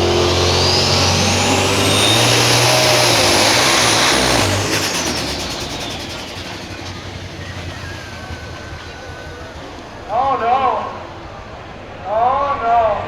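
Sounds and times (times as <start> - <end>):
engine at full throttle whining: 0.0 - 11.8.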